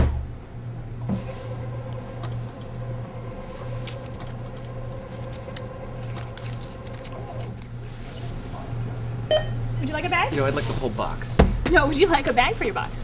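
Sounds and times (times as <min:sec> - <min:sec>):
conveyor belt motor hum: 0:00.0 - 0:13.0.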